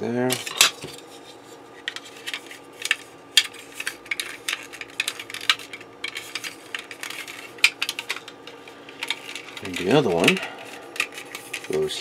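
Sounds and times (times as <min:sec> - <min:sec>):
plastic parts clicking: 0:01.9 - 0:11.9.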